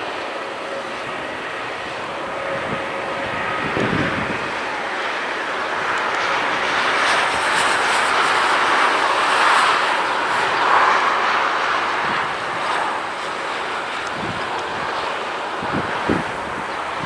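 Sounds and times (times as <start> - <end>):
jet engines of rolling airliner: 0.0 - 17.0.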